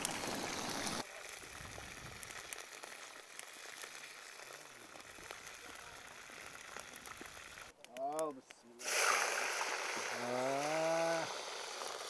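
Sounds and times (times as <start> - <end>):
food sizzling and crackling: 0.0 - 8.2, 8.8 - 12.0.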